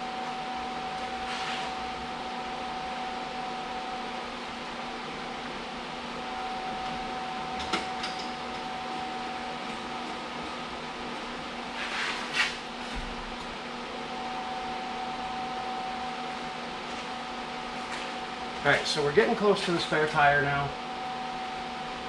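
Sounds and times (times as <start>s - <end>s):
mechanical hum with whine: 0.0s - 22.0s.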